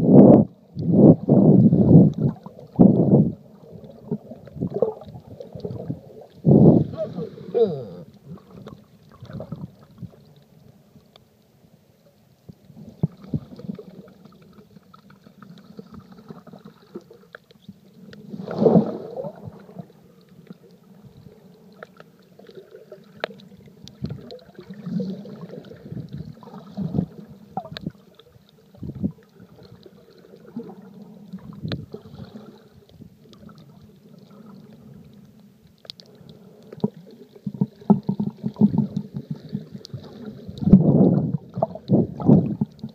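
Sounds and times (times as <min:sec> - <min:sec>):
underwater gurgling and sloshing: 0:00.0 - 0:42.9.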